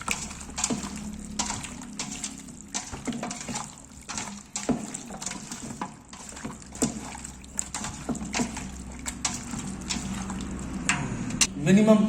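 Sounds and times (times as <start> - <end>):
wet squelches of mixing meat: 0.0 - 11.5.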